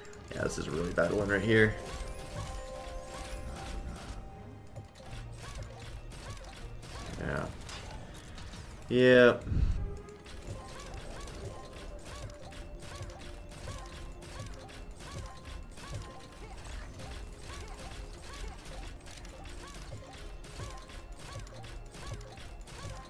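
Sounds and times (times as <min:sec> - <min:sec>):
rapid mechanical clicking: 0:00.0 - 0:08.9, 0:09.8 - 0:23.0.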